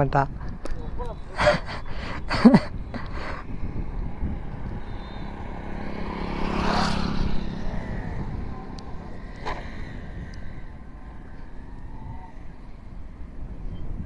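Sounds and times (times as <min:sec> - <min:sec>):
wind rumble on microphone: 0:00.0 - 0:14.0
vehicle passing by: 0:01.4 - 0:14.0.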